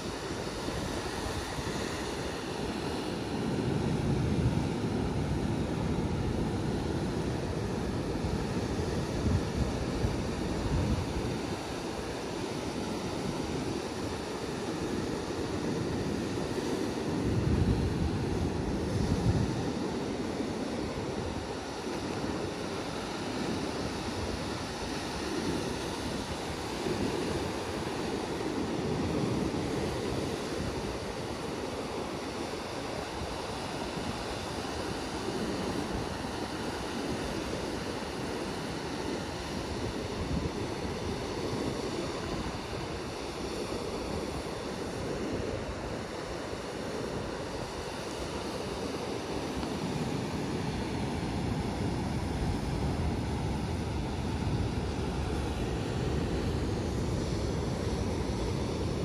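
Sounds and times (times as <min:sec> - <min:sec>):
surf washing on sandy beach: 0:00.0 - 0:59.0
wind rumbling on microphone: 0:00.0 - 0:59.0.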